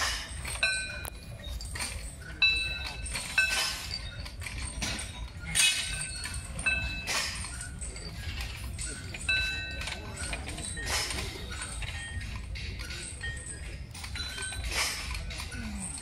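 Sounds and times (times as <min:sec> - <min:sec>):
metal ringing: 0:00.0 - 0:16.0
steel chains clinking and rattling: 0:00.0 - 0:16.0.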